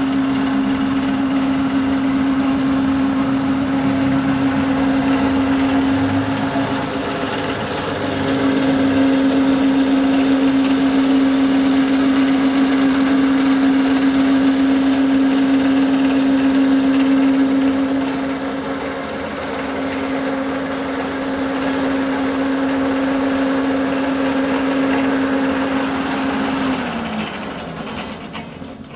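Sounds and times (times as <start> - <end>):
small motor humming: 0.0 - 28.9.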